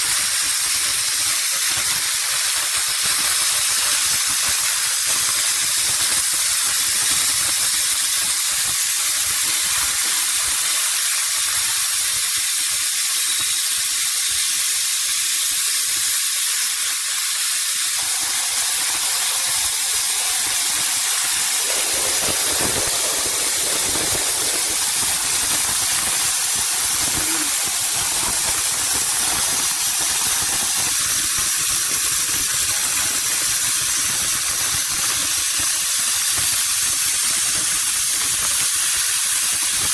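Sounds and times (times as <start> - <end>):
compressed air hissing: 0.0 - 39.9.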